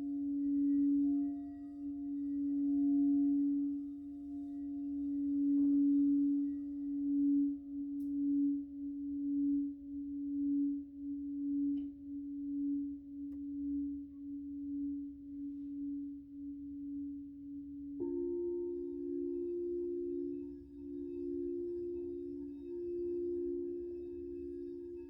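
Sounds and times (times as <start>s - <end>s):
crystal singing bowl ringing: 0.0s - 16.1s, 18.0s - 25.0s
higher-pitched singing bowl: 0.0s - 25.0s.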